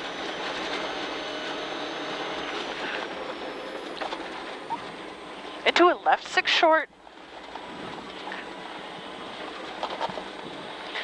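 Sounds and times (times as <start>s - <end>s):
car engine from inside cabin: 0.0s - 11.0s.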